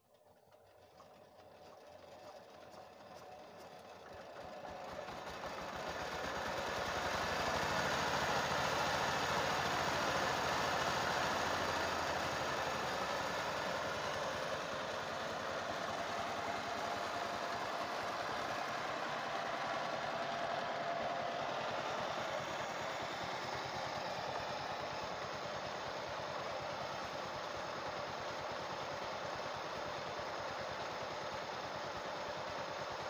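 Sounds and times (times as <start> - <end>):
diesel engine running: 1.8 - 33.0.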